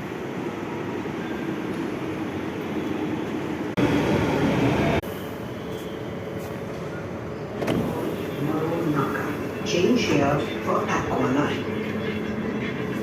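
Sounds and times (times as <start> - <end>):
metro train rumbling: 0.0 - 13.0.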